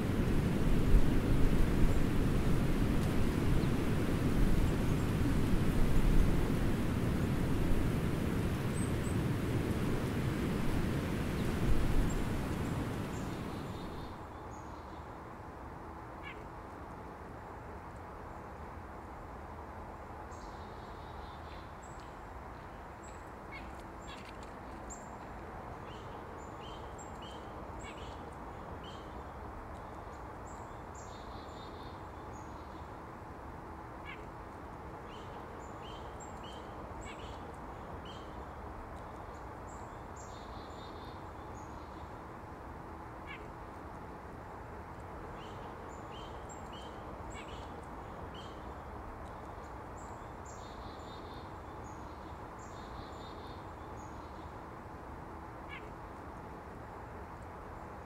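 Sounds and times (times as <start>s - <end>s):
low background hiss: 0.0s - 58.0s.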